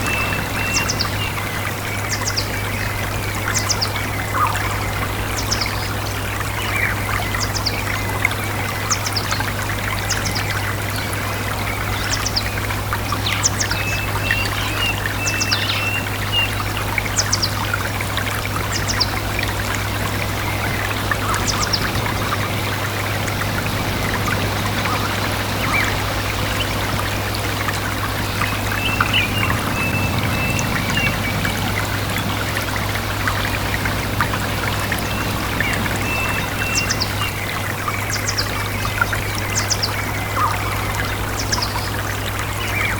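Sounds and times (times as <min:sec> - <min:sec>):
birds chirping: 0:00.0 - 0:42.9
stream trickling and splashing: 0:00.0 - 0:42.9.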